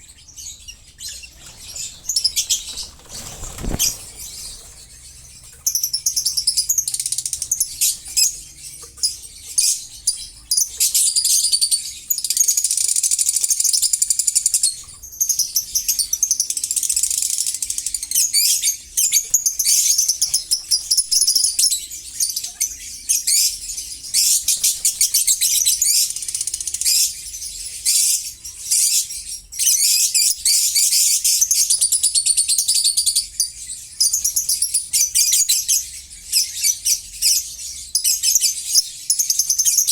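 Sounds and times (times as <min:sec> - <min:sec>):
lovebirds chattering and screeching: 0:00.0 - 0:39.9.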